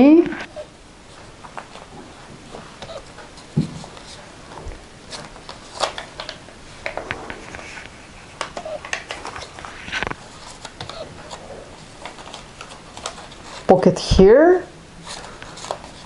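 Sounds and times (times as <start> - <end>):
paper pages rustling: 1.1 - 13.7, 15.0 - 16.0.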